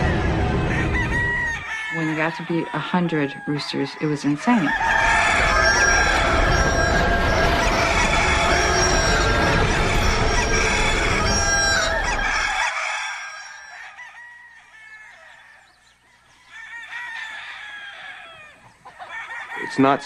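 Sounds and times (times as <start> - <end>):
roosters crowing and clucking: 0.0 - 20.0.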